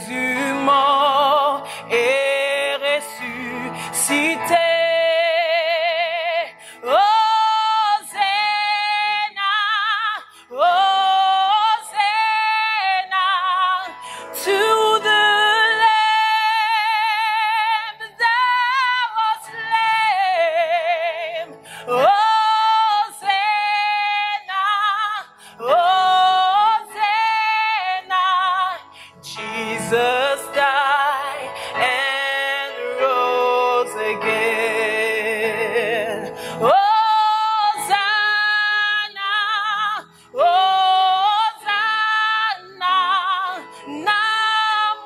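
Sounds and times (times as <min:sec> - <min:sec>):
woman singing gospel song: 0:00.0 - 0:45.0.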